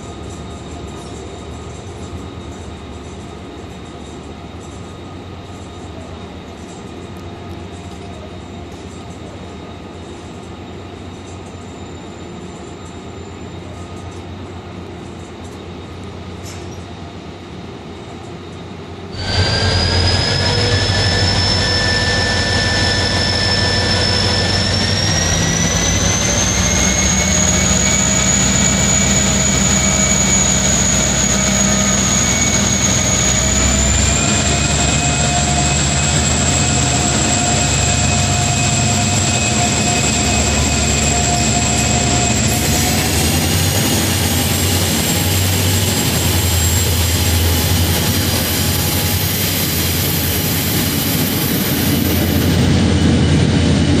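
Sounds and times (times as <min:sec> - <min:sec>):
diesel locomotive engine whining: 0:00.0 - 0:54.0
train and platform noise: 0:00.0 - 0:54.0.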